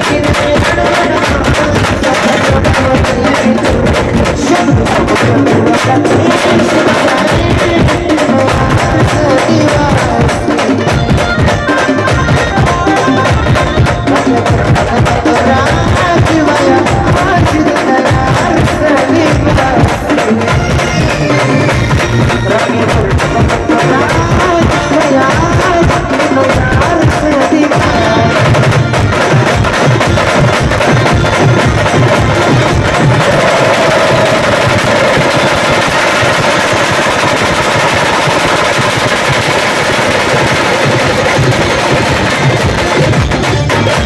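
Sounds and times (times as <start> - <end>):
fast dense drumming: 0.0 - 44.0
loud folk band music: 0.0 - 44.0.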